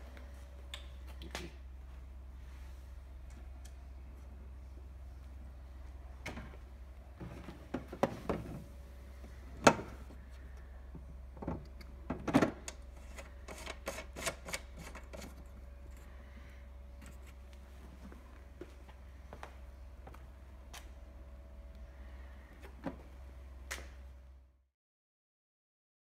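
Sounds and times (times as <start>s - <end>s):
steady low hum: 0.0s - 24.7s.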